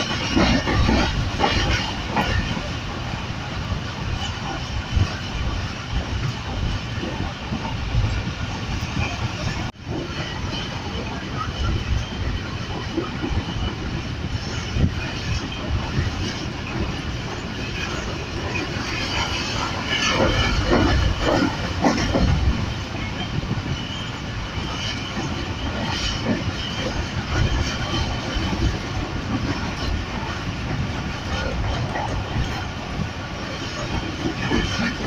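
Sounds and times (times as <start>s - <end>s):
train wheels rumbling and rattling: 0.0s - 35.0s.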